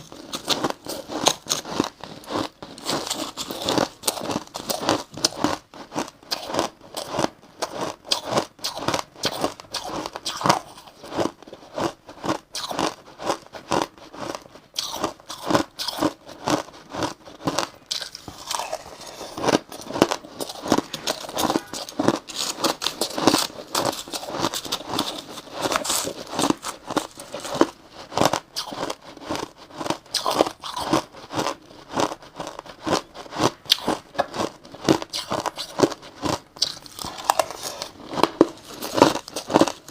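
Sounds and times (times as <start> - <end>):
crunching ice between teeth: 0.0 - 39.9.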